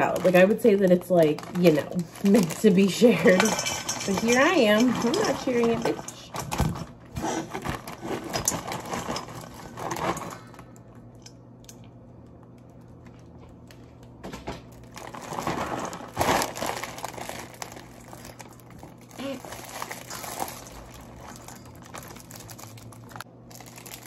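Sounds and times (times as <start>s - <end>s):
plastic bag crinkling: 0.0s - 10.8s, 14.6s - 24.0s.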